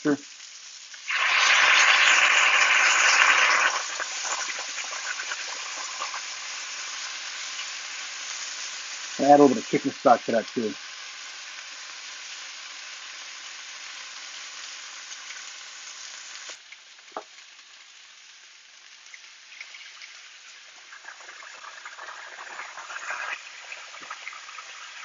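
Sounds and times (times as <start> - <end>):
chicken sizzling in a skillet: 0.0 - 25.0
stock crackling in hot pan: 0.0 - 25.0.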